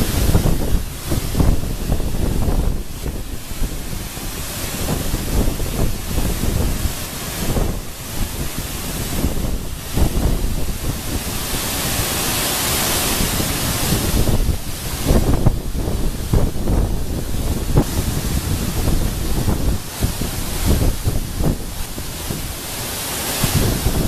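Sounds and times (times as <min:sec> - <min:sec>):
waterfall rushing onto rocks: 0:00.0 - 0:24.0
wind buffeting microphone: 0:00.0 - 0:24.0.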